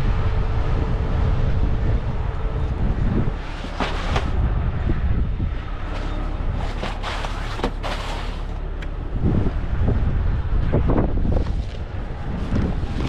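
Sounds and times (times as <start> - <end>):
wind buffeting microphone: 0.0 - 7.9, 8.5 - 13.0.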